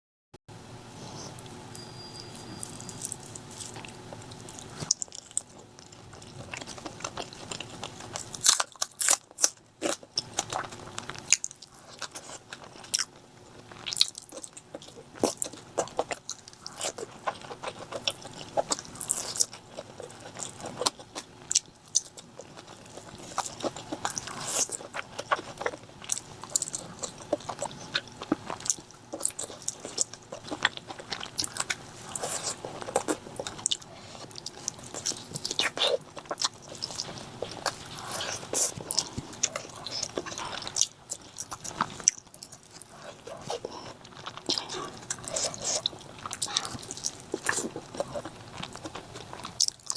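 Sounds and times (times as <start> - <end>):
person biting and chewing: 2.6 - 13.1, 13.8 - 49.9.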